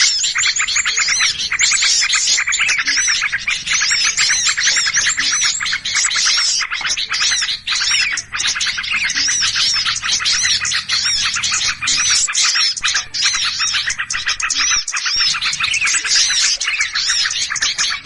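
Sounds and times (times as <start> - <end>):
small birds chirping agitatedly: 0.0 - 18.0.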